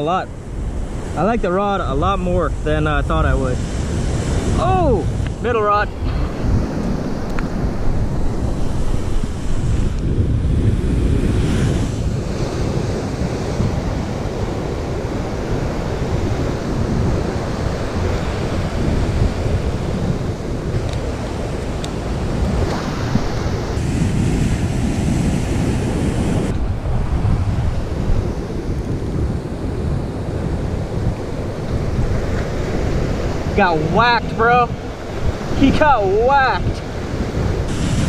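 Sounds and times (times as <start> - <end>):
surf breaking on beach: 0.0 - 38.0
wind buffeting microphone: 0.0 - 38.0.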